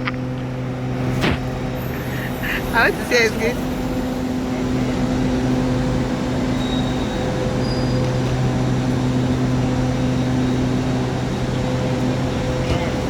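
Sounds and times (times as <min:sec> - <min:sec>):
train humming: 0:00.0 - 0:13.0.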